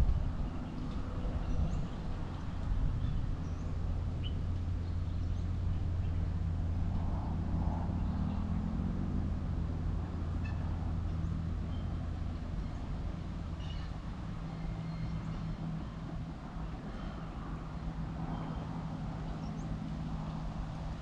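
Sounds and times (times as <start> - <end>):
distant locomotive drone: 0.0 - 21.0.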